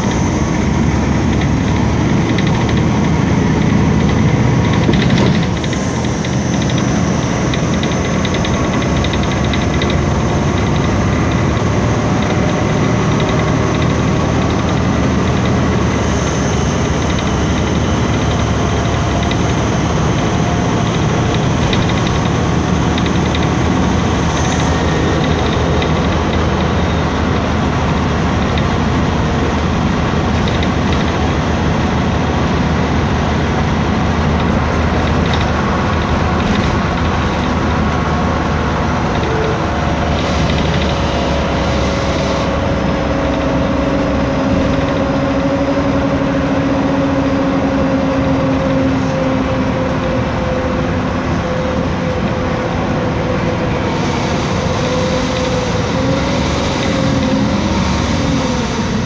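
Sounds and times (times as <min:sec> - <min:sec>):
bus engine rumble: 0:00.0 - 0:59.0
road and body noise: 0:00.0 - 0:59.0.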